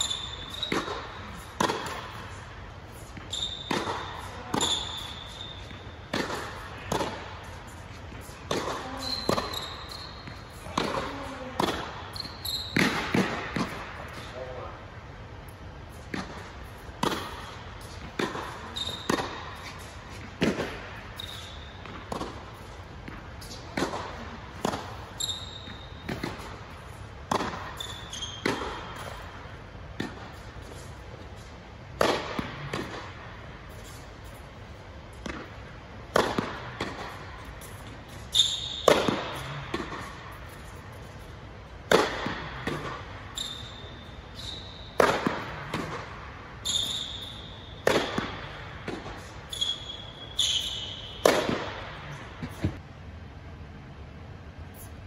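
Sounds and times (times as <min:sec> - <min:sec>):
racket hitting tennis ball: 0:00.0 - 0:14.3, 0:15.6 - 0:52.8
ball bouncing on hard court: 0:00.0 - 0:14.6, 0:15.9 - 0:52.8
shoes squeaking on court: 0:00.0 - 0:14.6, 0:15.5 - 0:52.8.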